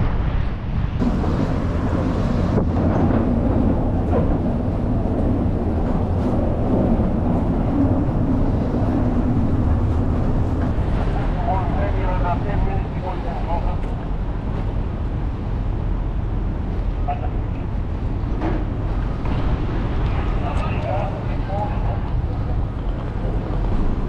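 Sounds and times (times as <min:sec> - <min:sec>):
ship engines rumbling: 0:00.0 - 0:24.0.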